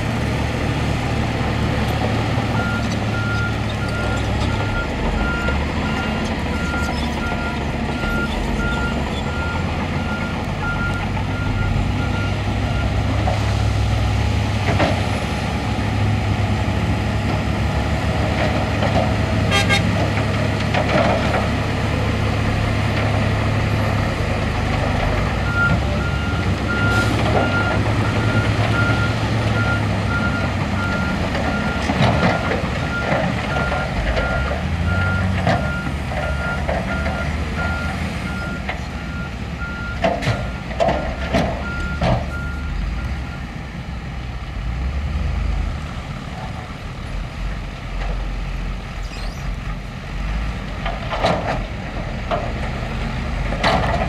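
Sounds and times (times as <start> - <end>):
diesel engines rumbling: 0.0 - 54.0.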